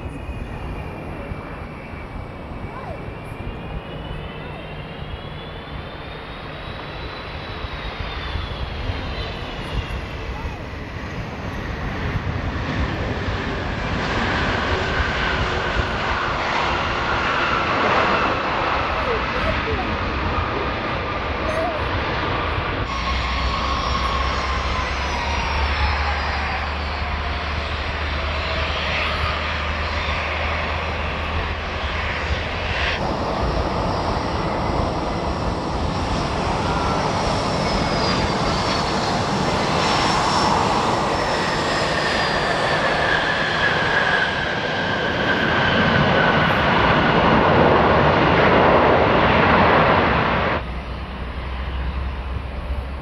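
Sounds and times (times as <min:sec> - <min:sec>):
jet aircraft passing: 0:00.0 - 0:53.0.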